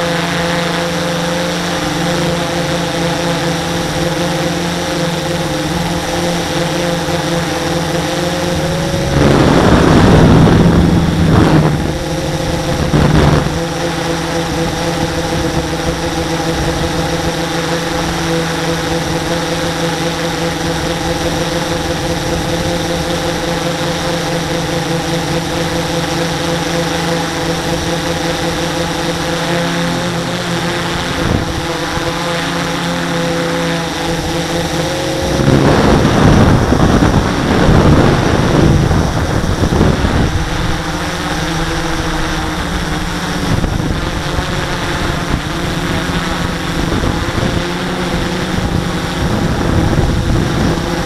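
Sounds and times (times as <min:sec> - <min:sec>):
model plane motor droning: 0:00.0 - 0:51.0
wind noise rushes: 0:03.4 - 0:26.7, 0:27.6 - 0:32.6, 0:33.9 - 0:51.0.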